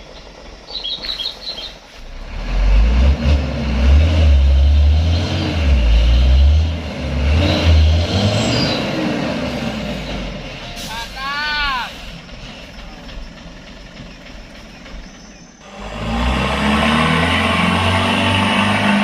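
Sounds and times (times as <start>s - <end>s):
truck diesel engine revving: 0.0s - 19.0s.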